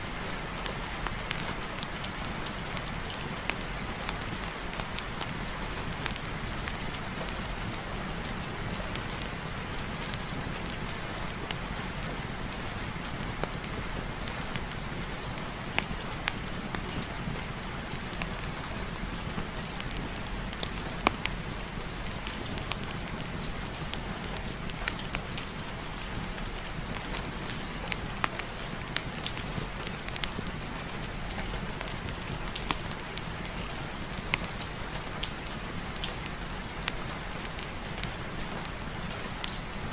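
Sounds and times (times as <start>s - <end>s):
steady rain: 0.0s - 39.9s
fireplace fire crackling: 0.1s - 39.9s.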